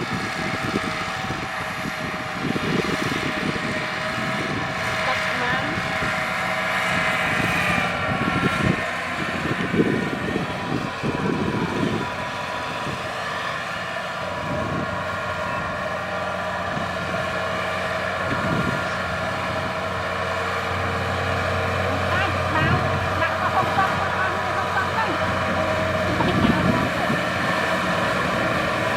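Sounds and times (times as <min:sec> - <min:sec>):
combine harvester engine drone: 0:00.0 - 0:28.9.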